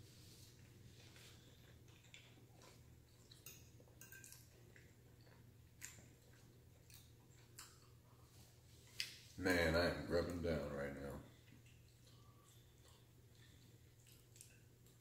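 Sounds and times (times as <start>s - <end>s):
quiet chewing: 0.1s - 9.4s, 11.2s - 15.0s.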